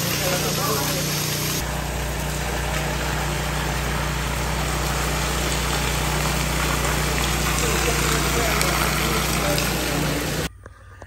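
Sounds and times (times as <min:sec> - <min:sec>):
engine humming: 0:00.0 - 0:10.5.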